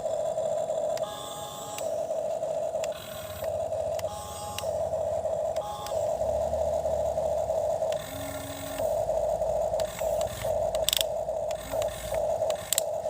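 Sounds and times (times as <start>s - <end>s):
toy excavator motors whirring: 0.0s - 13.0s.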